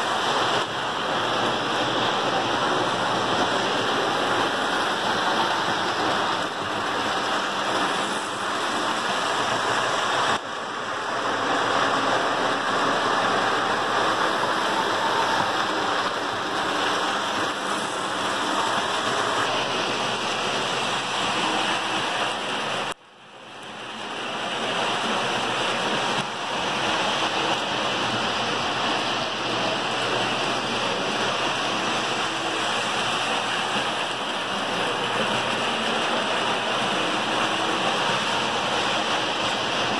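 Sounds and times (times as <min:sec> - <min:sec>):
toy trains rolling on track: 0:00.0 - 0:39.9.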